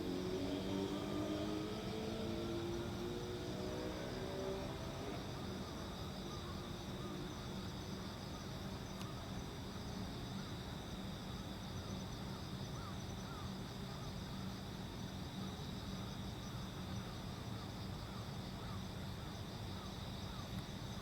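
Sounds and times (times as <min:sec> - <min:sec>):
constant low hum: 0:00.0 - 0:21.0
crickets and insects chirping: 0:00.0 - 0:21.0.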